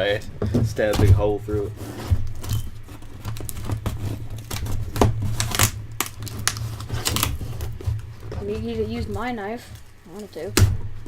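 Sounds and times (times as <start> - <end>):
crinkling: 0.7 - 11.0
knife cutting tape and cardboard: 1.6 - 10.5.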